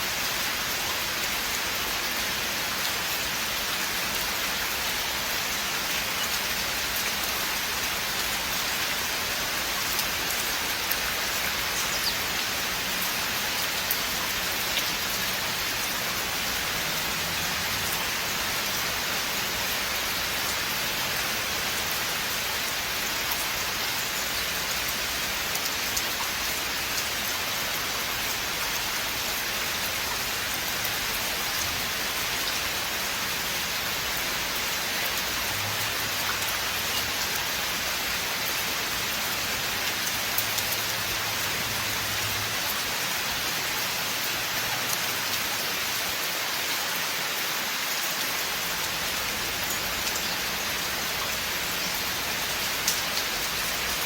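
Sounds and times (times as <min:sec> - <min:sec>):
rain falling on forest: 0:00.0 - 0:54.0.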